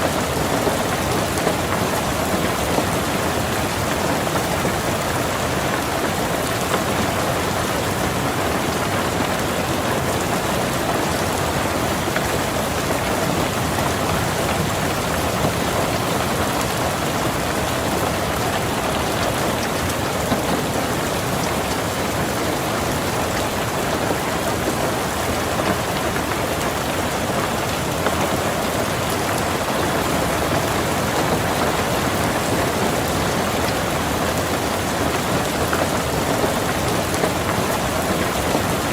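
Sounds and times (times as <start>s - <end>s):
rain falling on a car: 0.0s - 38.9s.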